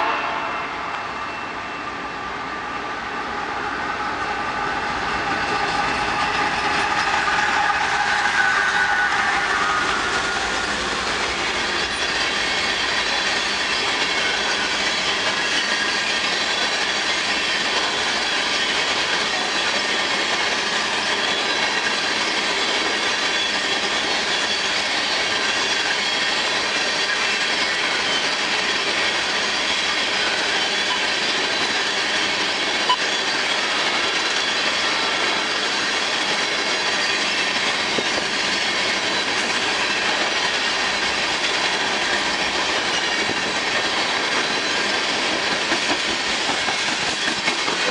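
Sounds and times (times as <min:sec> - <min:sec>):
train wheels ringing on rails: 0:00.0 - 0:47.9
freight train clatter: 0:03.9 - 0:47.9.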